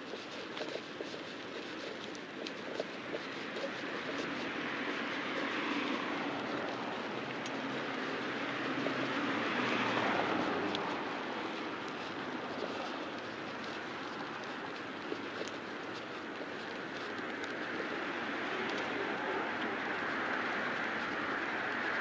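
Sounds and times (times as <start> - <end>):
street noise: 0.0 - 22.0
wind: 0.0 - 22.0.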